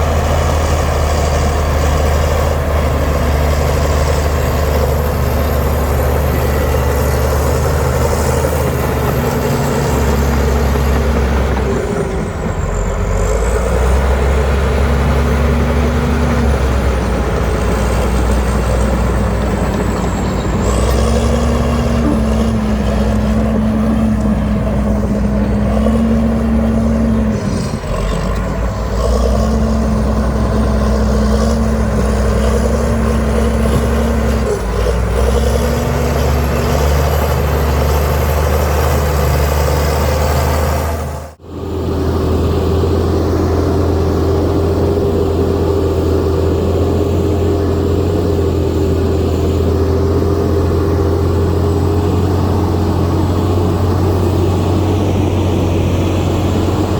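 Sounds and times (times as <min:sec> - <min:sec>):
heavy diesel machinery running: 0:00.0 - 0:56.9
steady engine drone: 0:00.0 - 0:56.9.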